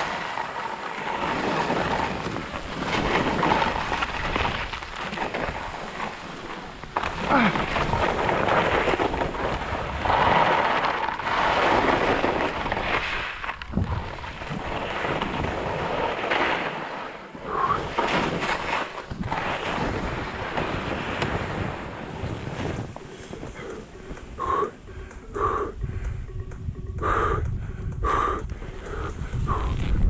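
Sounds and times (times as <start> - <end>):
skis scraping over snow: 0.0 - 25.6
wind rumbling on microphone: 0.0 - 30.0.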